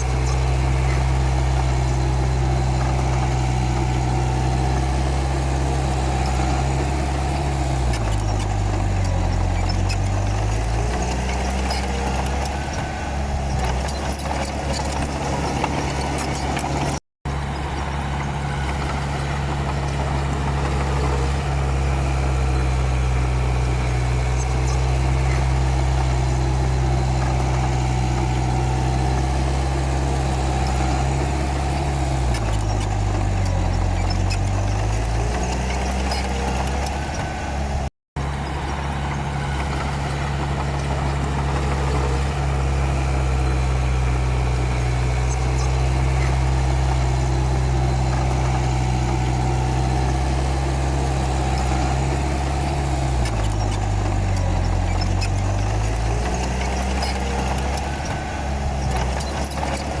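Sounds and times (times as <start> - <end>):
bulldozer diesel engine lugging: 0.0 - 60.0.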